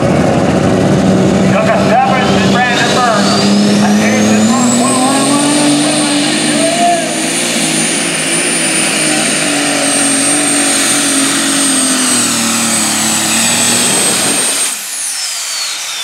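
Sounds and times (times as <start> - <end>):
tractor engine running flat out: 0.0 - 16.0
high turbo whistle: 2.0 - 16.0.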